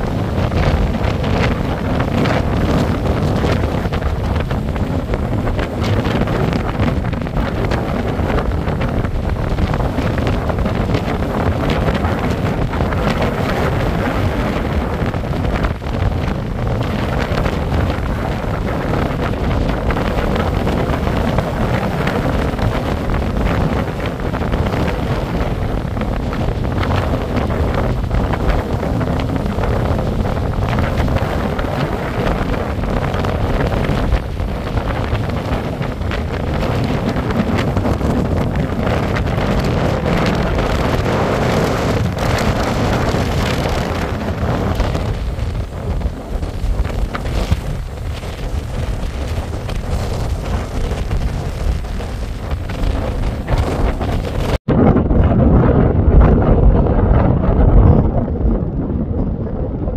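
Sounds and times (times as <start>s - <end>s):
wind buffeting microphone: 0.0s - 59.9s
waves breaking on shingle: 0.2s - 54.6s.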